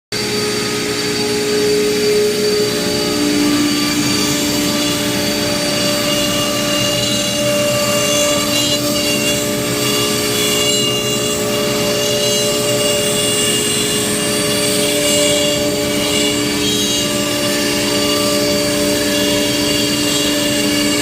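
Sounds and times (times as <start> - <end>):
router spindle whine: 0.2 - 21.0.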